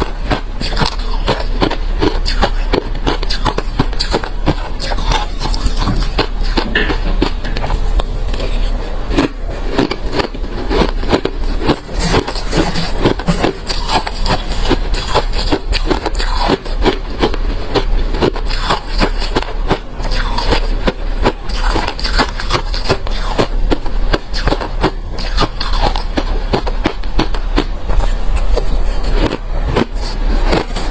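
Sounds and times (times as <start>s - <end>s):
chewing crushed ice: 0.0s - 30.9s.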